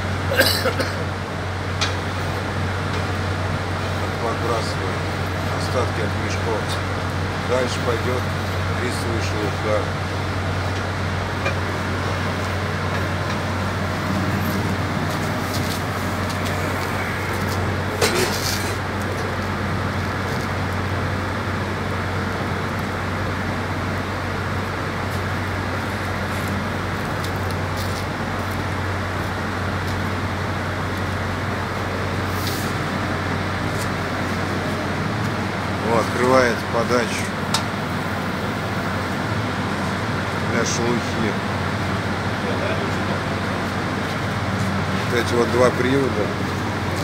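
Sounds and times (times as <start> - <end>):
boiler house mechanical drone: 0.0 - 47.0.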